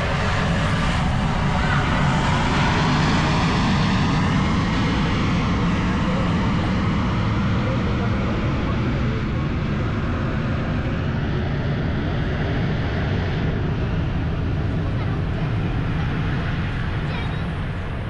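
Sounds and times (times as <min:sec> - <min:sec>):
airplane engines rumbling: 0:00.0 - 0:18.0.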